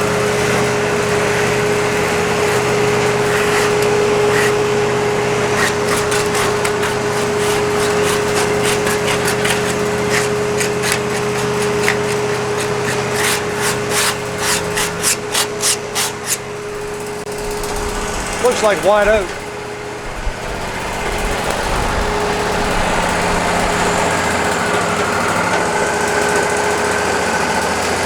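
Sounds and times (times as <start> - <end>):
band sawmill whine and engine hum: 0.0 - 28.0.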